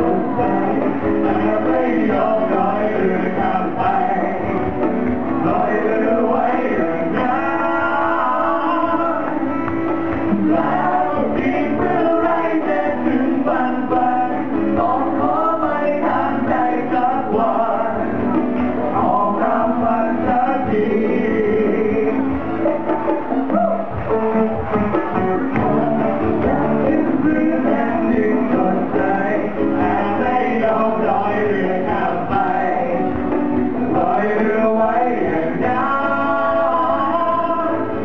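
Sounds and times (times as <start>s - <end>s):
full band playing pop song: 0.0s - 38.0s
singers' voices: 0.0s - 38.0s.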